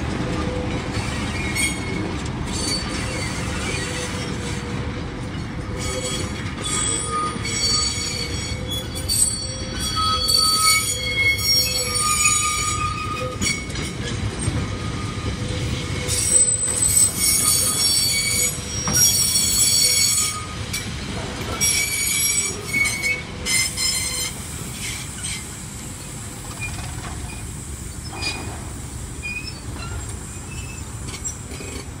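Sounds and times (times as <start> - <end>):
train wheels squealing on rails: 0.0 - 32.0.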